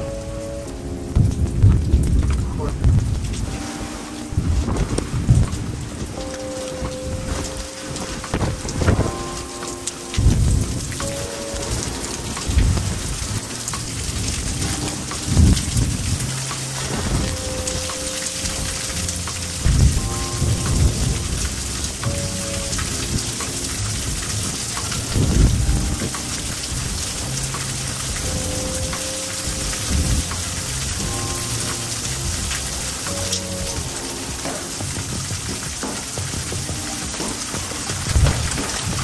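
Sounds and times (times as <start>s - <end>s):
heavy rain: 0.0s - 39.0s
thunder rolling: 0.0s - 39.0s.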